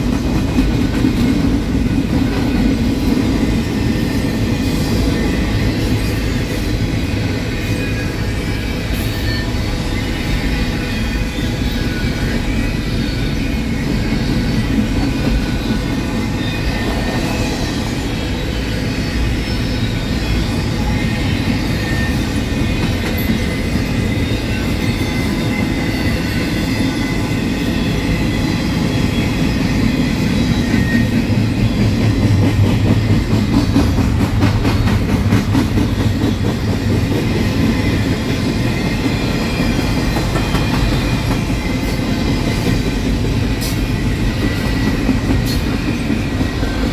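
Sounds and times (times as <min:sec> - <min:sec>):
wheels clickety-clack: 0:00.0 - 0:19.0, 0:19.6 - 0:46.9
train wheels rumbling on rail: 0:00.0 - 0:46.9.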